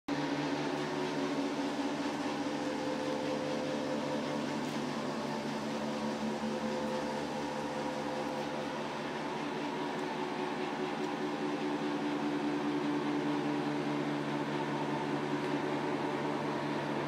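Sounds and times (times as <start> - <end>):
machine hum with held tones: 0.1 - 17.0.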